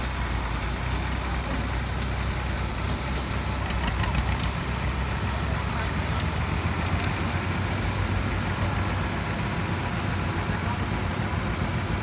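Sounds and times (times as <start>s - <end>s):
tractor engine running steadily: 0.0s - 12.0s.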